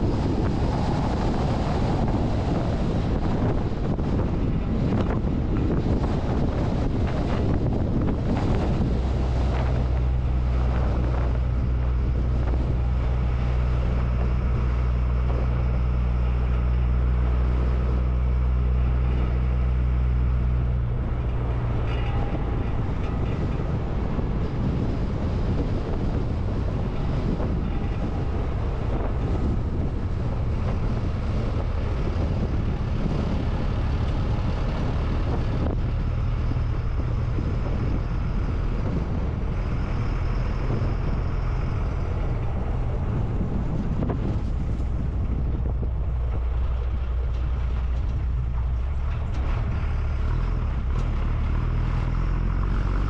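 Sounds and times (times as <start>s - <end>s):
diesel truck engine running: 0.0s - 53.0s
tyres on gravel road noise: 0.0s - 53.0s
wind on microphone: 0.0s - 53.0s.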